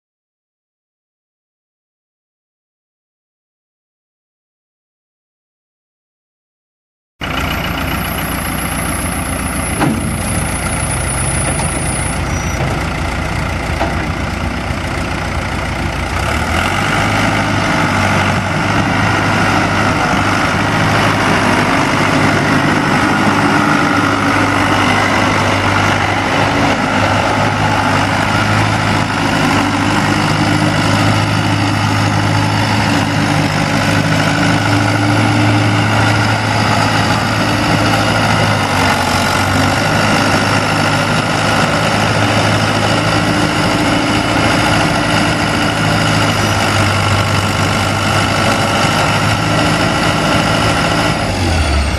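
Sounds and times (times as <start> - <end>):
tractor diesel engine running: 7.2 - 51.9.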